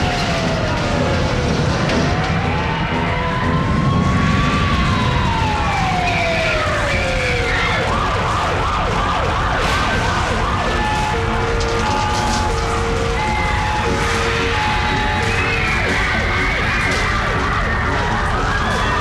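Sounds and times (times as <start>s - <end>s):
deep continuous rumble: 0.0s - 19.0s
wailing siren-like tone: 0.0s - 19.0s.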